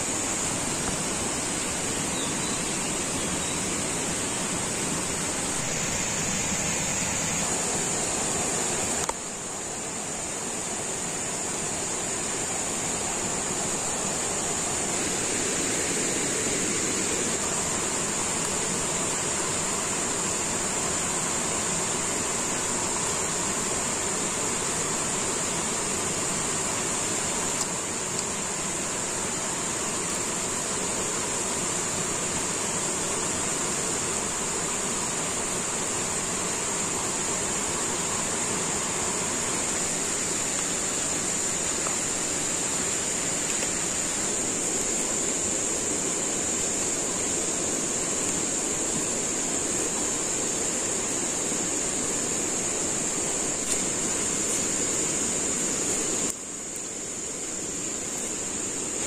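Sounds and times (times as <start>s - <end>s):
high-pitched insect drone: 0.0s - 59.0s
rushing hiss: 0.0s - 59.0s.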